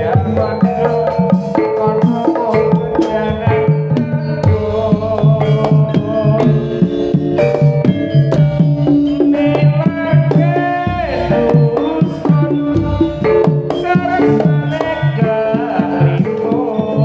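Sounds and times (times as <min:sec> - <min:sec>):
high sliding melody: 0:00.0 - 0:16.7
gamelan music through pa: 0:00.0 - 0:17.0
hand drums: 0:00.0 - 0:17.0.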